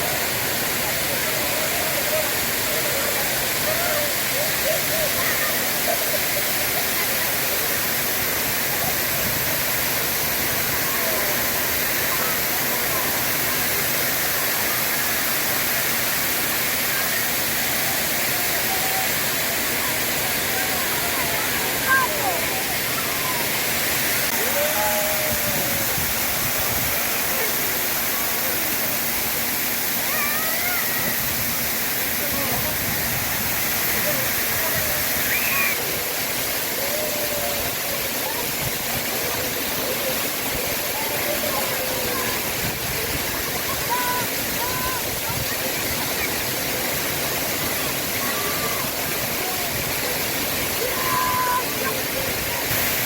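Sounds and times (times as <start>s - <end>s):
water splashing into a pool: 0.0s - 53.0s.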